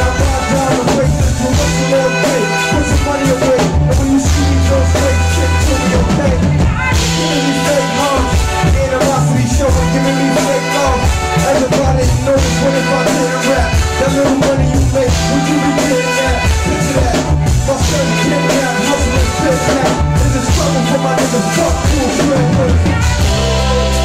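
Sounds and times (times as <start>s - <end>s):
drum kit: 0.0s - 24.0s
repeating bass line: 0.0s - 24.0s.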